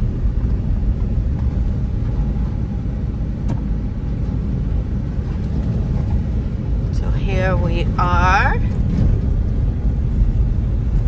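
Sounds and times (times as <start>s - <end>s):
car driving from inside cabin: 0.0s - 11.0s.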